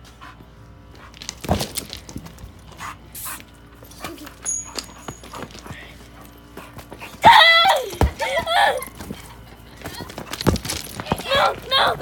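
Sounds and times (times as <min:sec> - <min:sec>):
dog footsteps and scuffling: 0:00.3 - 0:12.0.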